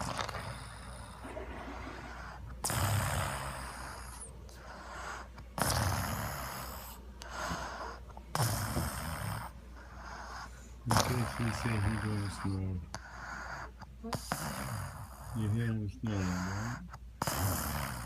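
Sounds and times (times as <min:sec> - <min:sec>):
man snoring: 0:00.0 - 0:09.5, 0:10.1 - 0:18.0.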